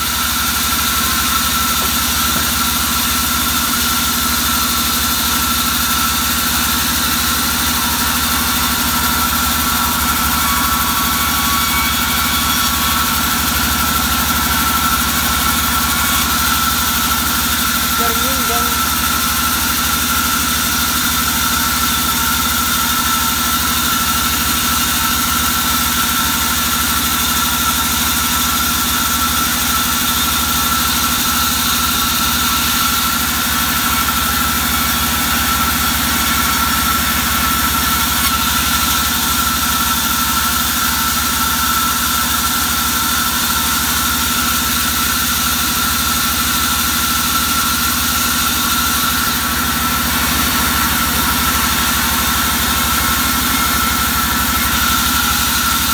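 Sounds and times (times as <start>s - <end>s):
band saw hum and whine: 0.0s - 55.9s.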